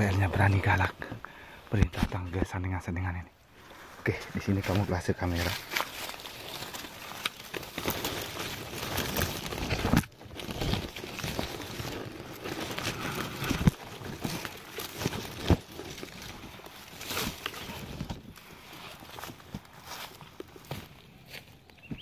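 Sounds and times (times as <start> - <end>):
dry leaves rustling: 3.5 - 22.0.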